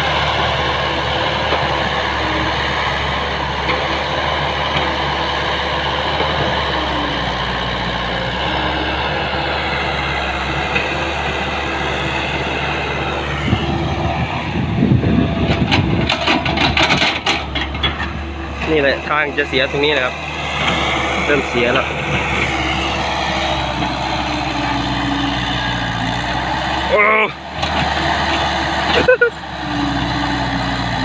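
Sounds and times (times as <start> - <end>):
diesel truck engine under load: 0.0 - 31.0.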